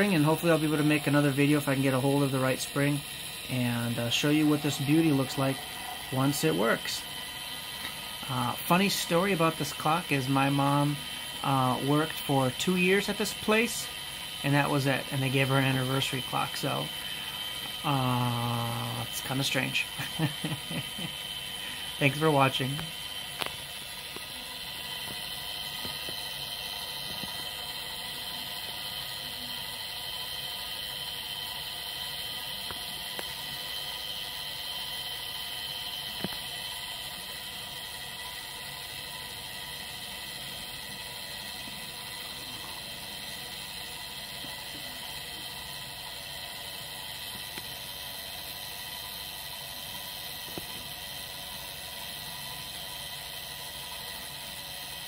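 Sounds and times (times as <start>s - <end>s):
clock gear train whirring: 0.0s - 55.0s.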